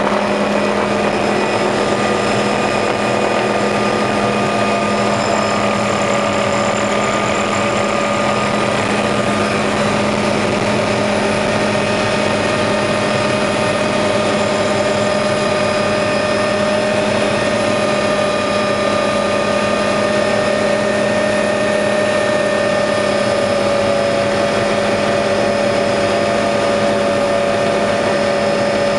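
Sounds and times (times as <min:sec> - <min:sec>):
helicopter engine and rotor drone: 0:00.0 - 0:28.9
steady whine: 0:00.0 - 0:28.9.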